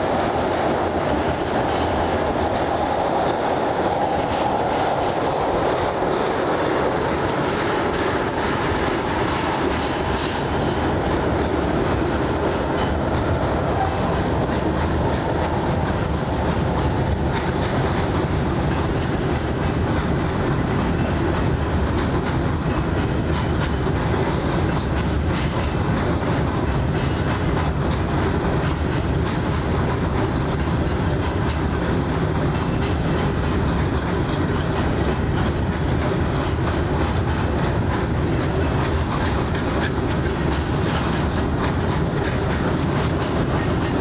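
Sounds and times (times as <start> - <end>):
freight train rumbling past: 0.0 - 44.0
steel wheels clattering over rails: 0.0 - 44.0.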